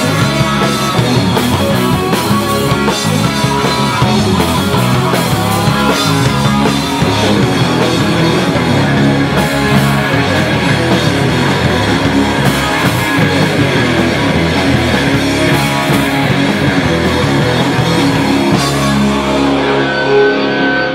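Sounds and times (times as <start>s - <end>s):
drum kit with cymbals: 0.0s - 20.3s
bass guitar: 0.0s - 20.9s
electric guitars: 0.0s - 20.9s.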